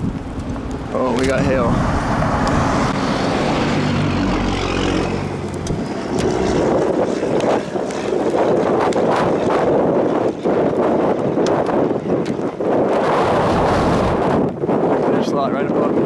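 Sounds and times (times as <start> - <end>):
vehicle noise: 0.0 - 14.6
wind rushing: 0.0 - 16.0.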